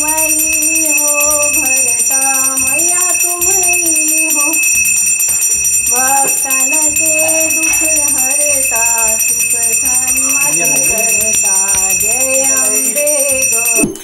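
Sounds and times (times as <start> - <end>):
bell ringing: 0.0 - 14.0
devotional singing: 0.0 - 14.0.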